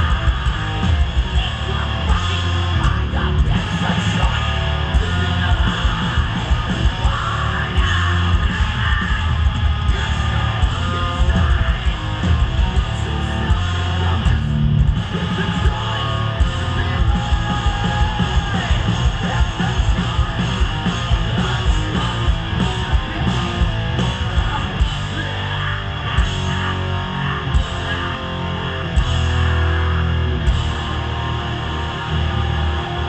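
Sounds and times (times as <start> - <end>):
bass: 0.0 - 33.0
distorted electric guitars: 0.0 - 33.0
fast dense drumming: 0.0 - 33.0.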